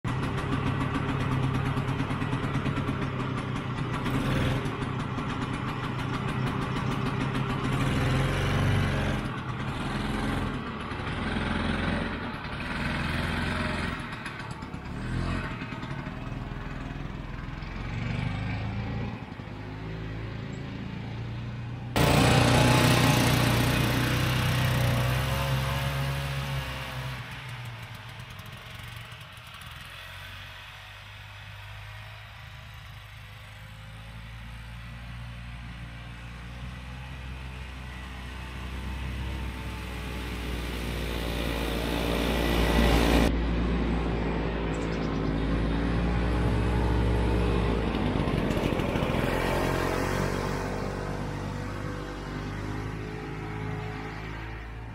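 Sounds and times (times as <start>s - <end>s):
snowmobile engine revving: 0.3s - 20.4s, 21.9s - 30.5s, 31.6s - 54.9s.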